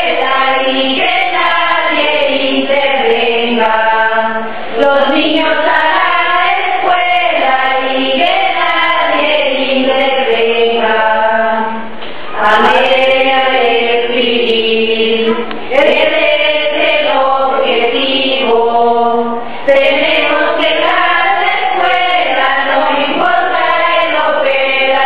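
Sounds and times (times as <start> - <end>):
slow singing music: 0.0 - 25.0.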